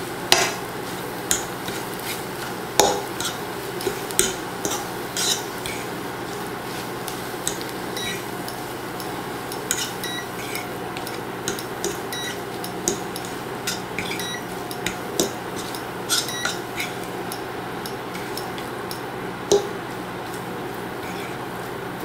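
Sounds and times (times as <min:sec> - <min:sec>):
steady low hum: 0:00.0 - 0:22.0
fork scraping a frying pan: 0:01.3 - 0:18.7, 0:19.5 - 0:22.0.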